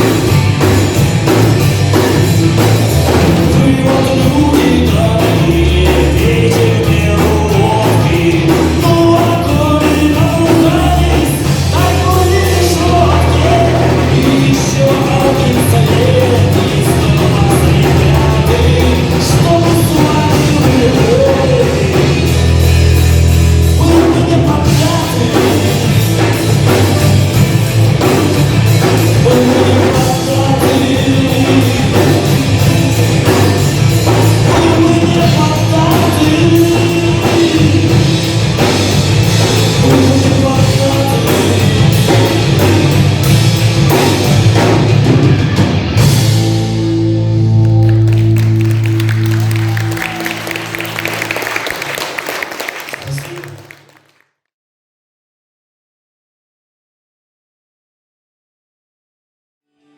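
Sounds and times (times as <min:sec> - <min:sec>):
live rock band playing: 0:00.0 - 0:53.8
drum kit pounding: 0:00.0 - 0:53.9.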